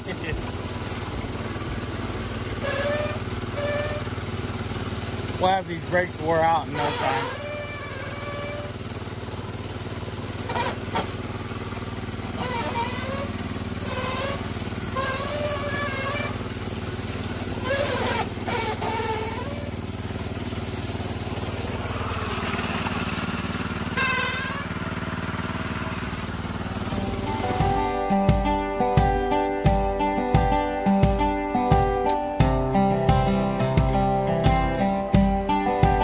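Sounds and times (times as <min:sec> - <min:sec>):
golf cart engine running: 0:00.0 - 0:36.0.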